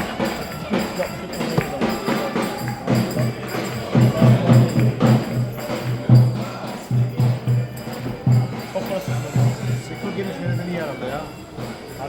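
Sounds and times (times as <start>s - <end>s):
low drum beat: 0.0s - 10.7s
jingling percussion: 0.0s - 12.0s.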